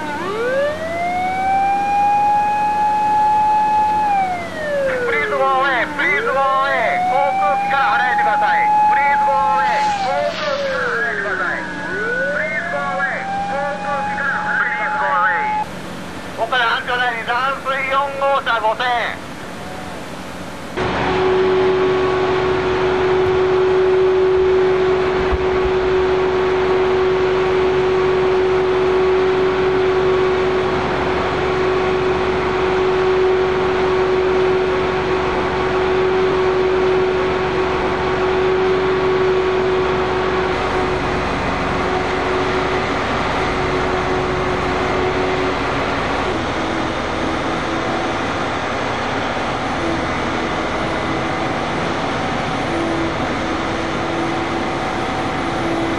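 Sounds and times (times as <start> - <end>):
large engine running: 0.0 - 55.9.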